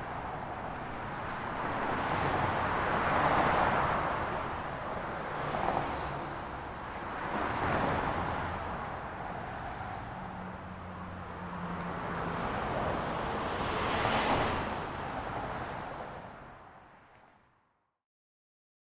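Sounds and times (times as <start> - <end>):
vehicles passing: 0.1 - 17.1.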